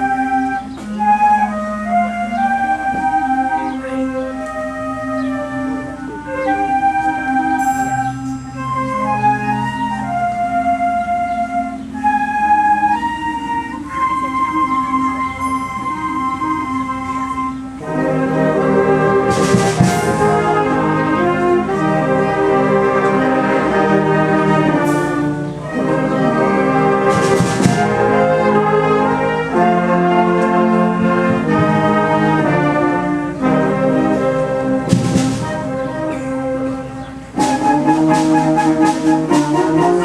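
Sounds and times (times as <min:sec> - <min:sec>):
wind band playing: 0:00.0 - 0:40.0.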